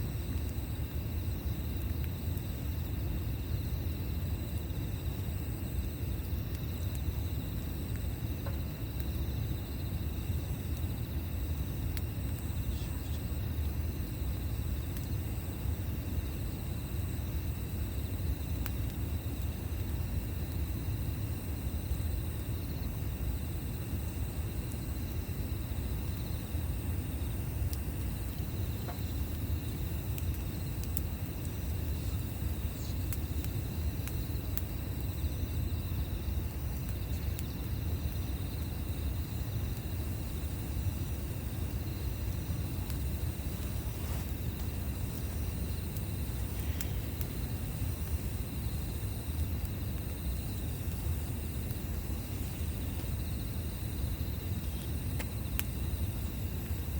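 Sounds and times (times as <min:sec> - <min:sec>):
campfire crackles: 0:00.0 - 0:56.9
crickets trilling: 0:00.0 - 0:56.9.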